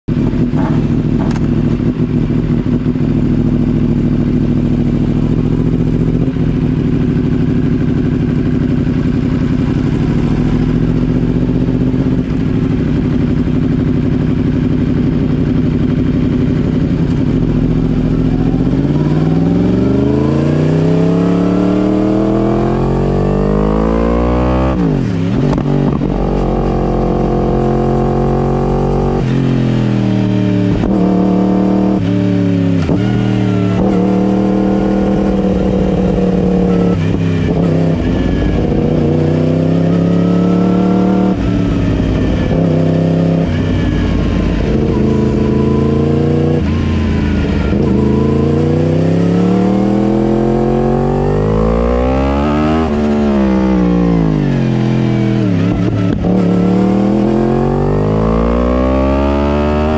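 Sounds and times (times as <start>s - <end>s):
motorbike engine revving: 0.1s - 59.9s.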